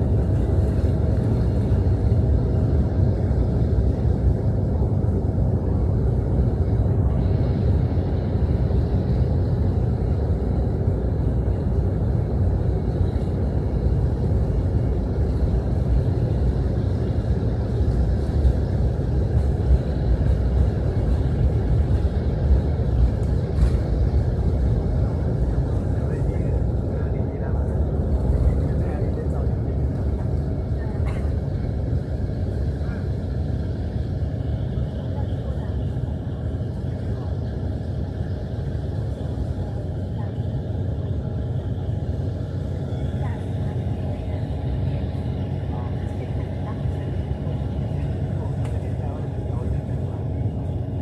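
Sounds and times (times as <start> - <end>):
airliner engines rumbling: 0.0 - 51.0.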